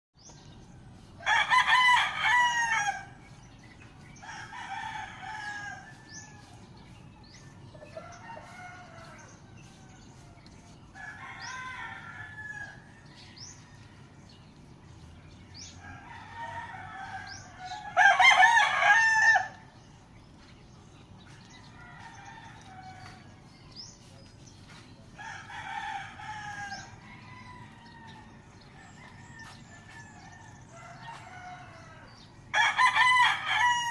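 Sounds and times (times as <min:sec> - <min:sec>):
small birds chirping: 0:00.2 - 0:33.9
roosters crowing: 0:00.3 - 0:33.9.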